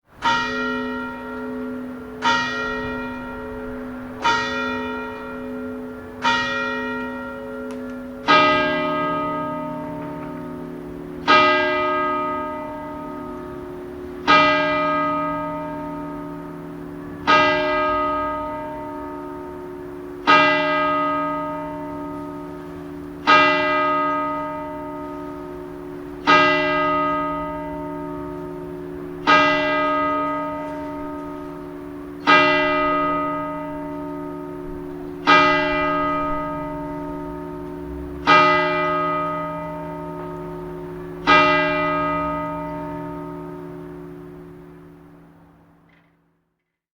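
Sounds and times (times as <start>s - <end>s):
higher church bell tolling: 0.0s - 46.5s
deeper church bell tolling: 0.0s - 46.6s.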